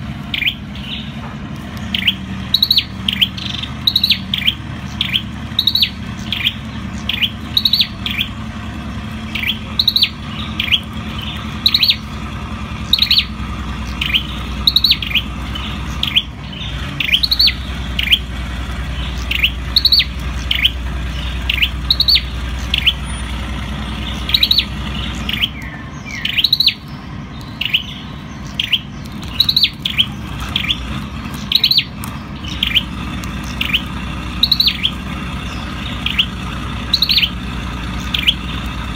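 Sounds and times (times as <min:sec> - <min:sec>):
bird chirping sharply: 0:00.0 - 0:38.9.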